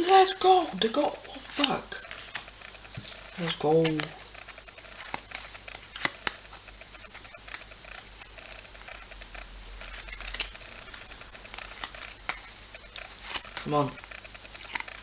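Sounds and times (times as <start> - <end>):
trading cards clicking and rustling: 0.0 - 15.0.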